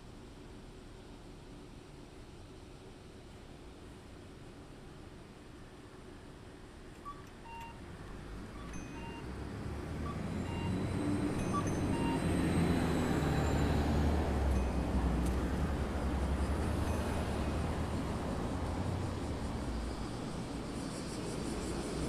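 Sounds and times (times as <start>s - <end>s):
vehicle engine and road rumble: 0.0s - 22.0s.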